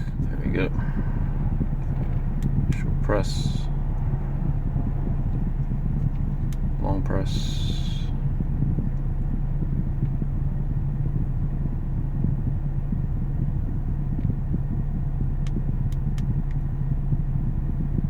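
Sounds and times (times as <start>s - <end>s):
constant low hum: 0.0s - 18.0s
low rumble: 0.0s - 18.0s.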